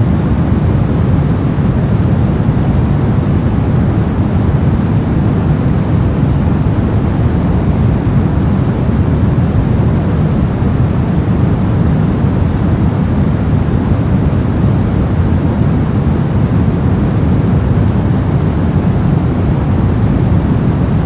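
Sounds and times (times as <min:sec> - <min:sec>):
brown noise hiss: 0:00.0 - 0:21.0.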